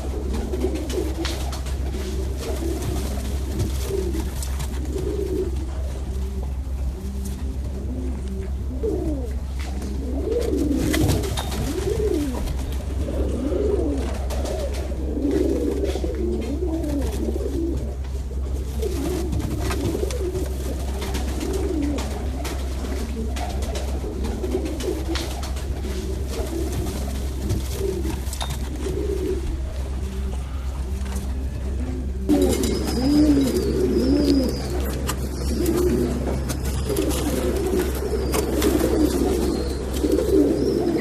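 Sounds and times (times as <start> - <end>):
pigeons cooing: 0.0 - 41.0
steady low hum: 0.0 - 41.0.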